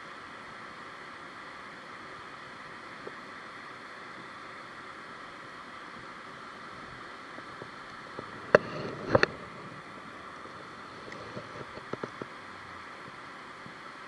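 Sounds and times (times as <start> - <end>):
river water rushing over dam: 0.0 - 14.0.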